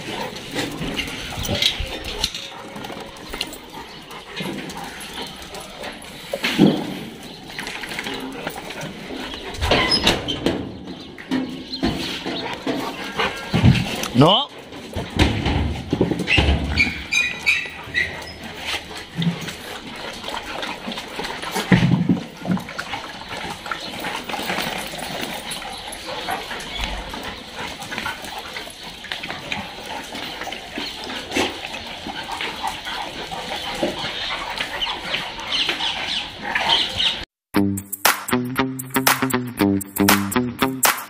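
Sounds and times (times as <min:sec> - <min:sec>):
dogs scuffling on tiled floor: 0:00.0 - 0:37.2
dogs vocalizing while playing: 0:00.0 - 0:37.3.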